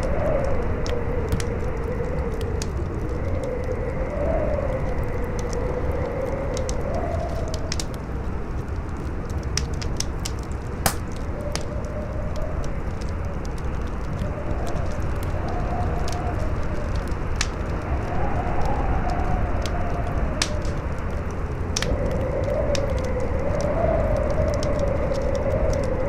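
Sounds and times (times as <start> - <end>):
wind howling: 0.0 - 9.1, 10.4 - 26.0
fire crackling: 0.0 - 26.0.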